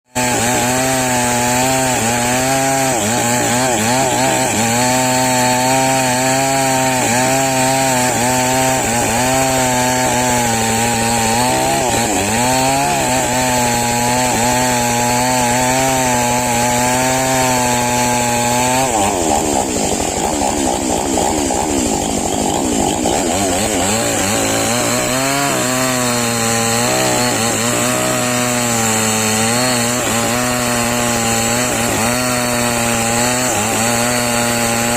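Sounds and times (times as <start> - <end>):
chainsaw engine running: 0.0 - 34.9.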